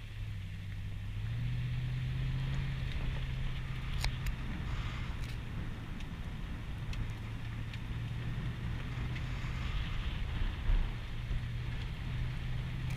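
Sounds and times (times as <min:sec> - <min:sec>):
car engine hum: 0:00.0 - 0:12.9
tyres rumbling on gravel road: 0:00.0 - 0:12.9.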